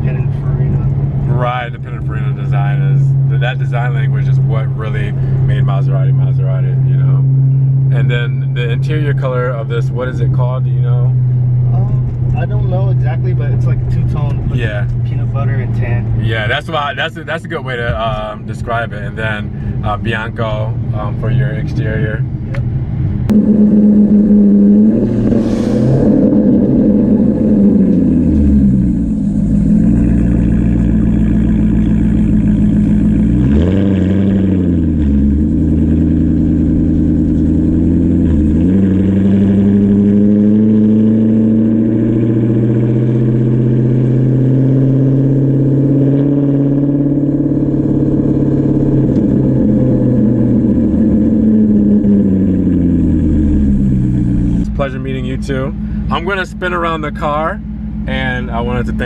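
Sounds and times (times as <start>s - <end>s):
car exhaust revving: 0.0s - 59.0s.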